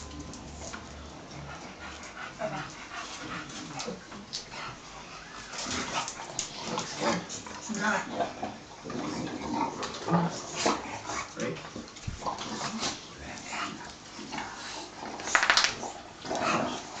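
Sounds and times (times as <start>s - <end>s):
dogs play-fighting vocalizing: 0.0s - 17.0s.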